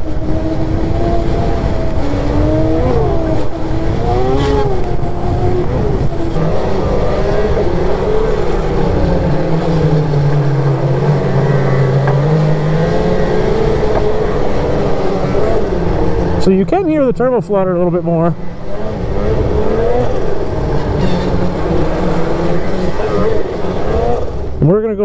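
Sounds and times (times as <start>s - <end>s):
snowmobile engine revving: 0.0s - 16.6s, 18.5s - 24.4s.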